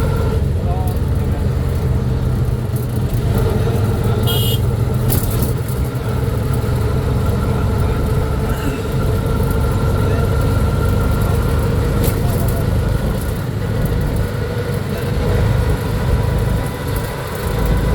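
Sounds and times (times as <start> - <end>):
vehicle engine and road rumble: 0.0 - 17.9.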